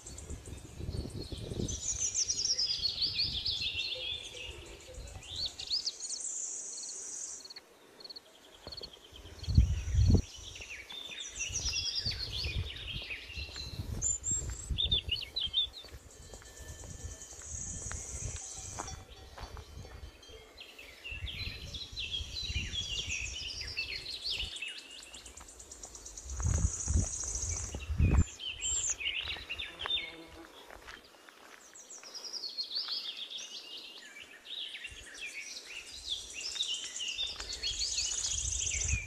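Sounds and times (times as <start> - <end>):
songbird chirping: 0.0 - 39.0.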